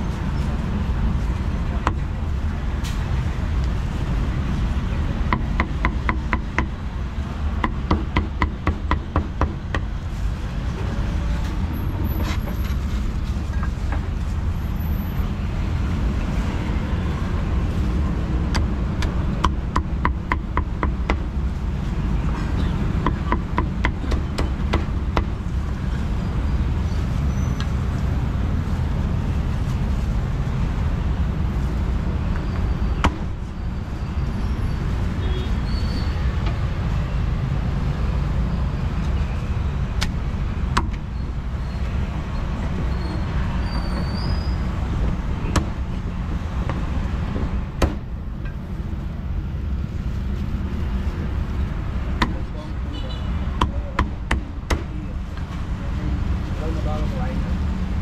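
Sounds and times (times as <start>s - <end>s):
low traffic rumble: 0.0s - 58.0s.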